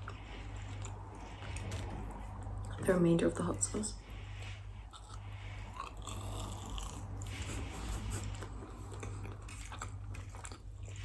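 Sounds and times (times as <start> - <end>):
chewing and biting food: 0.0 - 2.8, 4.3 - 11.0
low electrical hum: 0.0 - 11.0.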